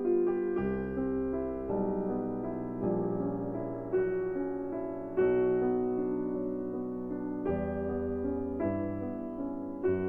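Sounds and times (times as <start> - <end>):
slow piano chords: 0.0 - 10.0.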